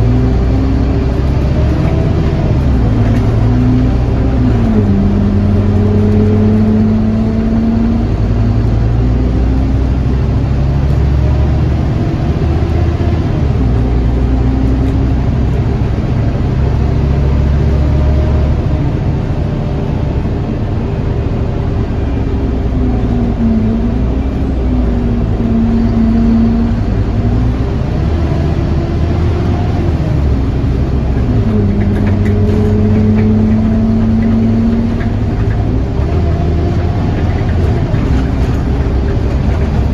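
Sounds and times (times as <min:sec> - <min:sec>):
bus diesel engine driving: 0:00.0 - 0:39.9.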